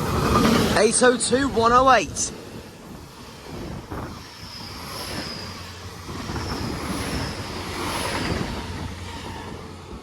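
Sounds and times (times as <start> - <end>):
train engine hum: 0.0 - 10.0
train wheels rumbling on rails: 0.0 - 10.0.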